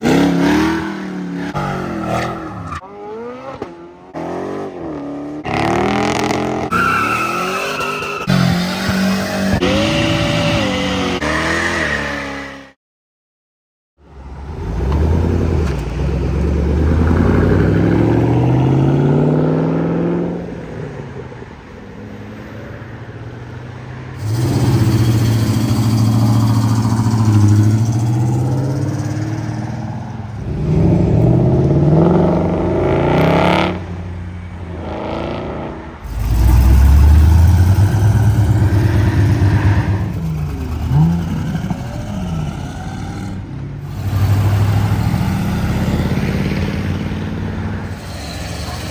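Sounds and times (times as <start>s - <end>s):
car engines accelerating: 0.0s - 12.8s, 14.0s - 48.9s.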